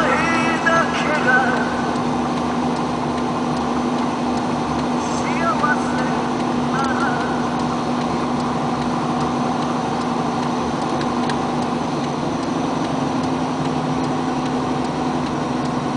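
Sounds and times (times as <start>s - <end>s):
vehicle engine drone and road noise: 0.0s - 15.9s
faint light ticks: 0.9s - 15.9s.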